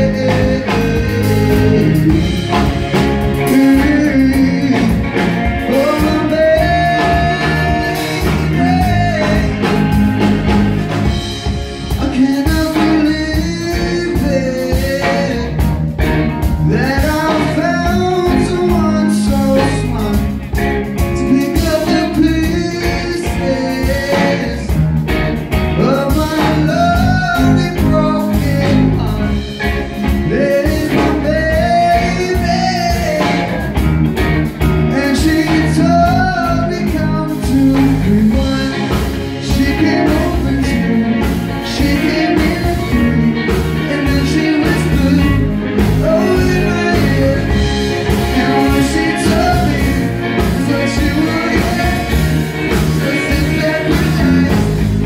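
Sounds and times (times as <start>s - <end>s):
lead singer: 0.0s - 55.0s
live pop-rock band: 0.0s - 55.0s.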